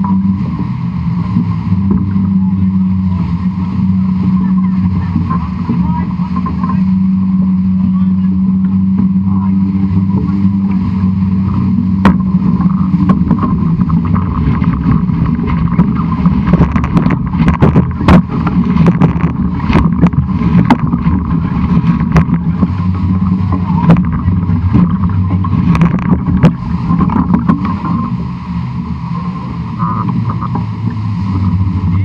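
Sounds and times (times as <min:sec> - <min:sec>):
low hum from sailing rig: 0:00.0 - 0:32.0.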